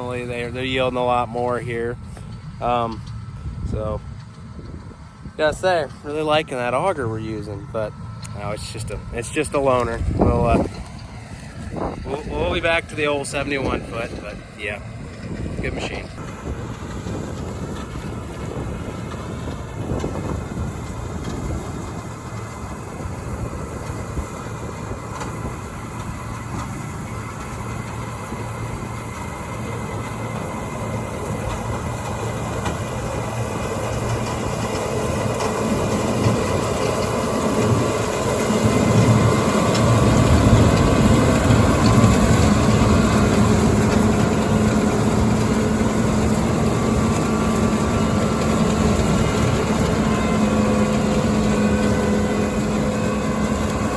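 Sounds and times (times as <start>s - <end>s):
heavy machinery engine running: 0.0s - 53.9s.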